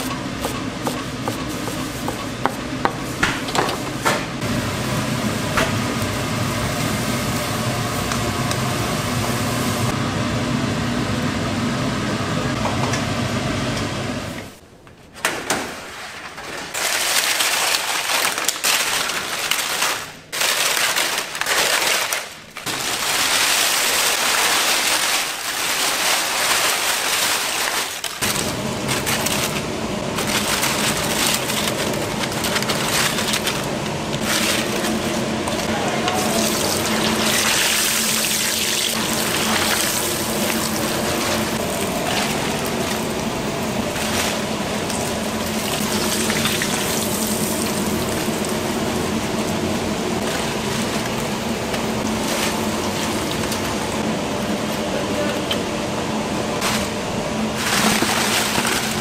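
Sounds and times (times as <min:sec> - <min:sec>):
hissing kitchen noise: 0:00.0 - 0:14.6, 0:22.3 - 0:59.0.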